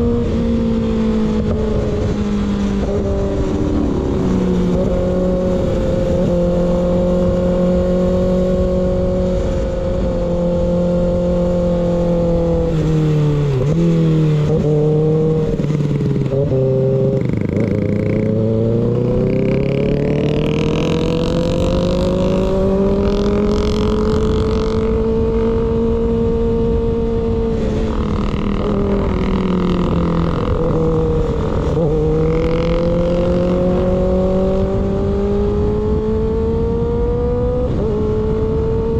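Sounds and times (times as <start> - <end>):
motorcycle engine revving: 0.0 - 38.9
wind on microphone: 0.0 - 38.9.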